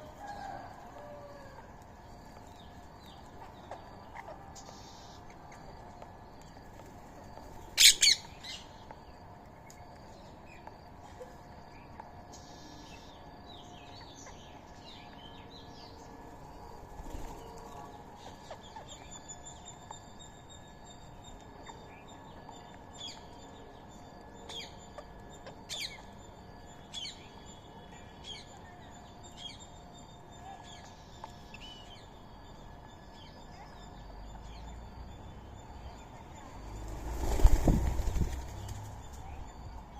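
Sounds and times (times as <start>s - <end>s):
birds calling and chirping: 0.0s - 39.9s
faint background hum: 0.0s - 39.9s.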